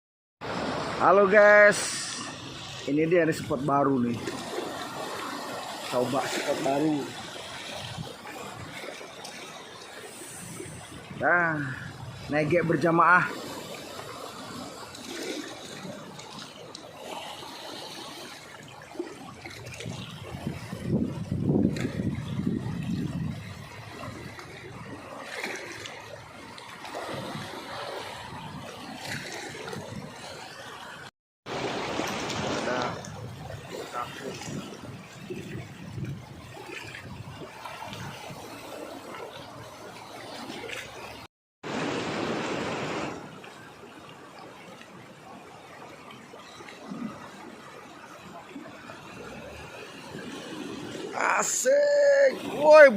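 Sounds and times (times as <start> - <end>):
water trickling and lapping: 0.4 - 52.9.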